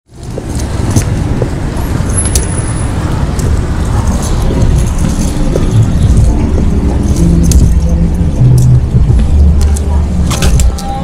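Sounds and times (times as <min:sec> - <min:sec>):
cars passing on road: 0:00.1 - 0:11.0.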